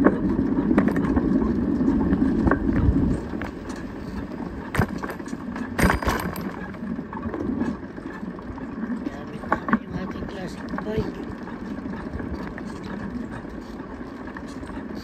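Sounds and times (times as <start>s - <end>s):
bike rattles and clanks: 0.0s - 15.0s
wind and road noise: 0.0s - 15.0s.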